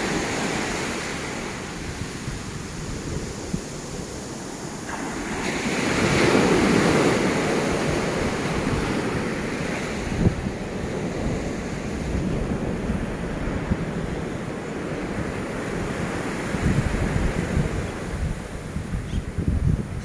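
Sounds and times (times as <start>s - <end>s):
ocean surf breaking: 0.0s - 20.0s
wind on microphone: 0.0s - 20.0s.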